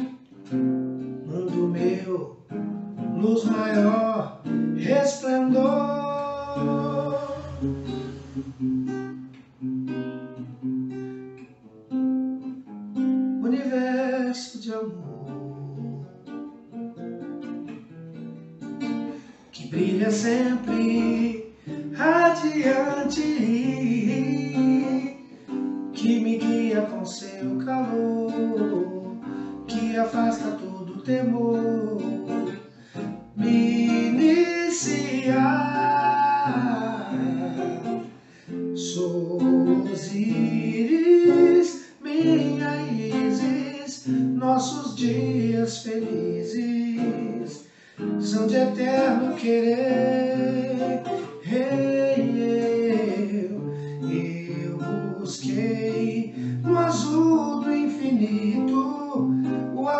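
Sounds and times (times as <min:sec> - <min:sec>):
acoustic guitar strumming: 0:00.0 - 0:59.9
man singing: 0:01.2 - 0:08.3, 0:13.4 - 0:16.4, 0:19.4 - 0:38.2, 0:38.8 - 0:59.9.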